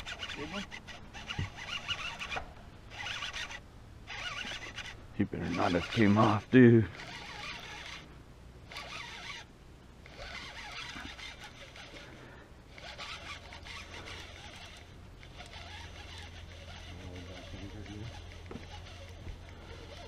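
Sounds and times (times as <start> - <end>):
fishing reel whirring: 0.0 - 20.0
low steady hum: 0.0 - 20.0.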